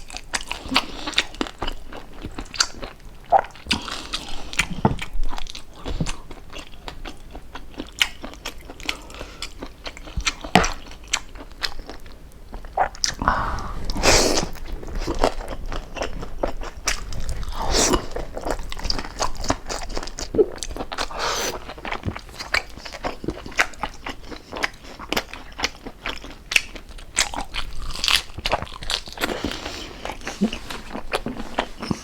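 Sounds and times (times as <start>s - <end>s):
chewing crispy crunches: 0.0s - 13.3s, 13.9s - 32.0s.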